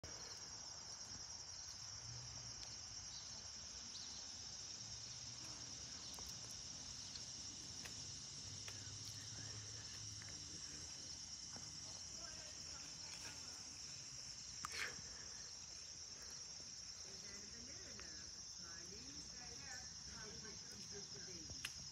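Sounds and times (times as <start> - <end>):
high-pitched insect chorus: 0.0 - 21.9.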